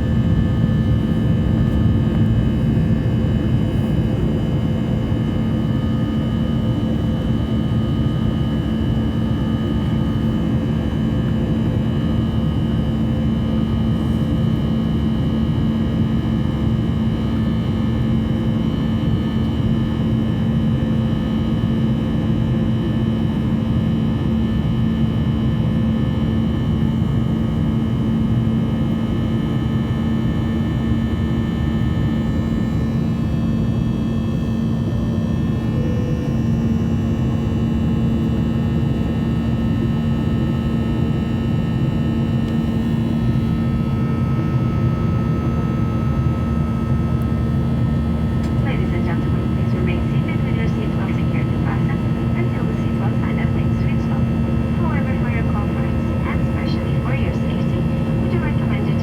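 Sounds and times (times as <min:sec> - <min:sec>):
high engine whine: 0:00.0 - 0:59.0
jet engine drone in cabin: 0:00.0 - 0:59.0.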